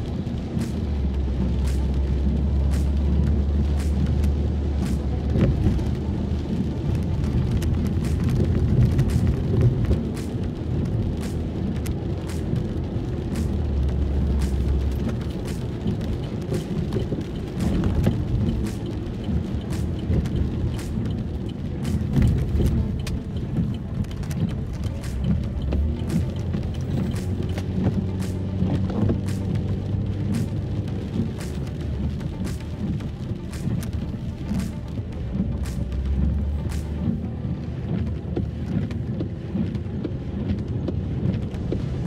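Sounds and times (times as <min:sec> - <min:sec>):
rain spattering on windshield: 0:00.0 - 0:42.0
road and wind noise: 0:00.0 - 0:42.0.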